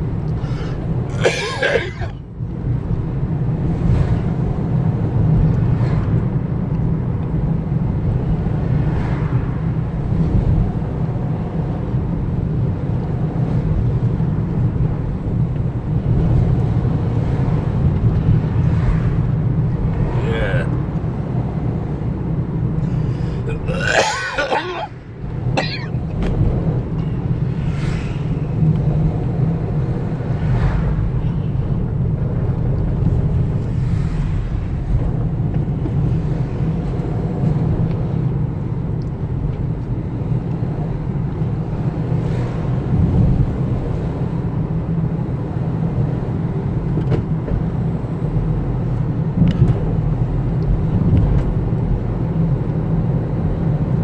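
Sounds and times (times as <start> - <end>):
vehicle rumbling: 0.0 - 54.0.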